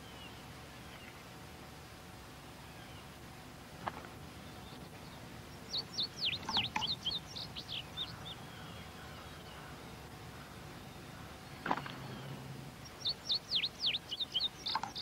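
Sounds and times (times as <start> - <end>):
faint outdoor hiss: 0.0 - 15.0
songbird singing: 0.0 - 15.0.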